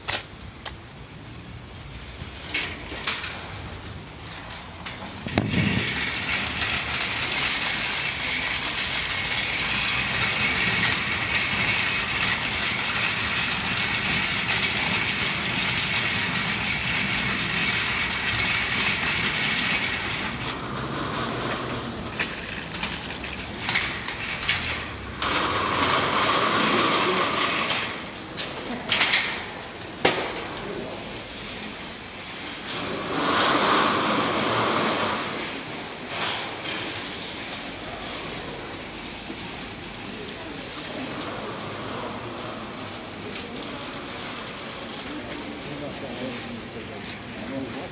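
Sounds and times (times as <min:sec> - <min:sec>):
shopping trolley rattling over paving: 0:00.0 - 0:47.9.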